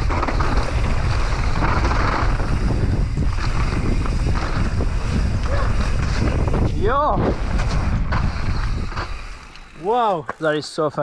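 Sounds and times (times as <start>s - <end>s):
wind buffeting microphone: 0.0s - 9.4s
bike rattling over bumps: 0.0s - 10.6s
tyres rolling over dirt and leaves: 0.0s - 11.0s.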